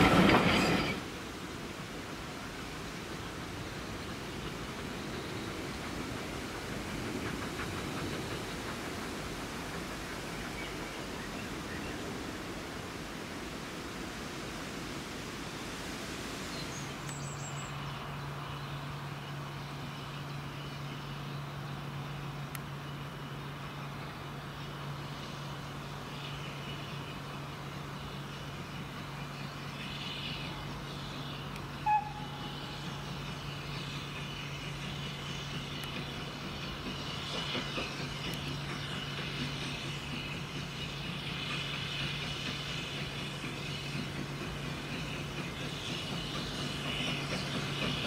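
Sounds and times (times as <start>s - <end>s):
quiet outdoor background: 0.0s - 48.0s
steam locomotive low hum: 0.0s - 48.0s.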